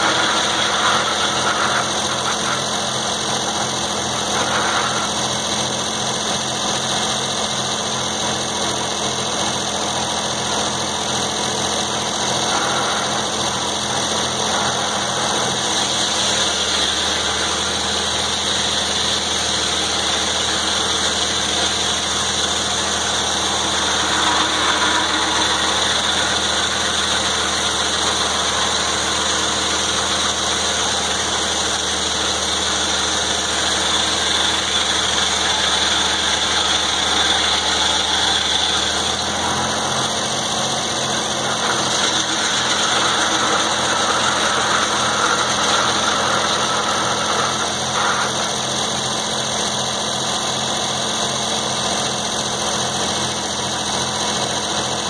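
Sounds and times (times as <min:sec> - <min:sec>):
engine under load: 0:00.0 - 0:55.0
saw blade cutting log: 0:00.0 - 0:55.0.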